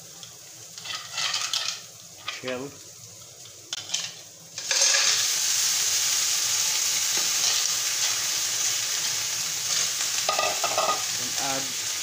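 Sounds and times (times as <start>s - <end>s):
loud sizzling in oil: 0.0s - 12.0s.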